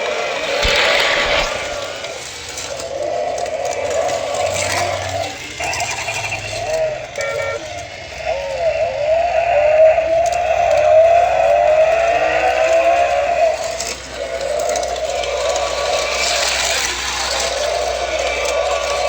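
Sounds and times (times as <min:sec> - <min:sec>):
toy cars rattling on plastic track: 0:00.0 - 0:19.0
whirring tone rising in pitch: 0:00.0 - 0:19.0.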